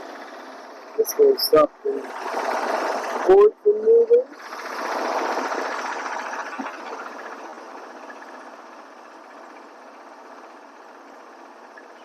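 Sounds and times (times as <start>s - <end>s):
sawmill engine running: 0.0s - 3.4s, 4.3s - 11.7s.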